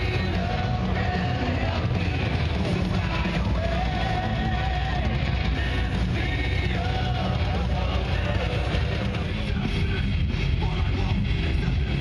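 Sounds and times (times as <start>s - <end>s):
rock music with sung vocals: 0.0s - 12.0s.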